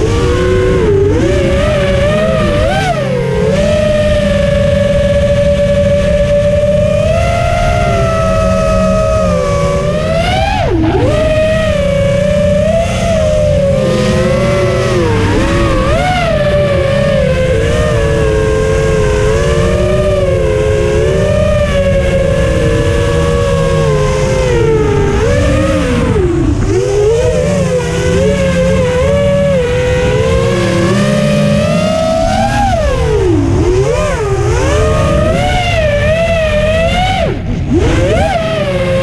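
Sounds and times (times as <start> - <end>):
low rumble: 0.0 - 39.0
quadcopter motors whining: 0.0 - 39.0.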